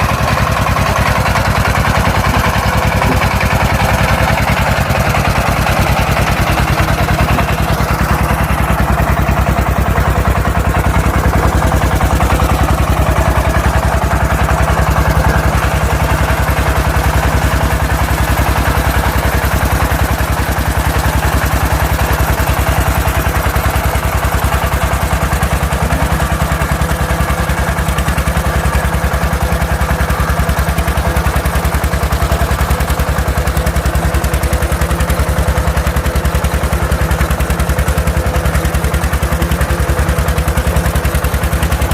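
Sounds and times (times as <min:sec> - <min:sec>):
tractor engine chugging: 0:00.0 - 0:41.9.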